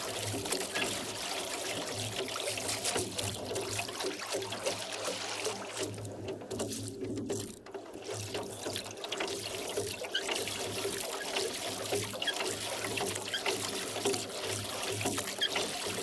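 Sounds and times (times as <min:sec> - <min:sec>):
oars splashing in water: 0:00.0 - 0:16.0
water dripping off oars: 0:00.0 - 0:16.0.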